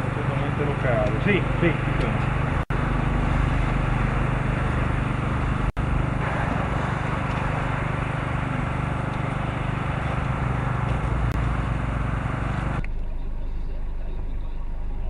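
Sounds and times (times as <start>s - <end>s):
rushing noise: 0.0s - 12.8s
engine drone: 0.0s - 15.0s.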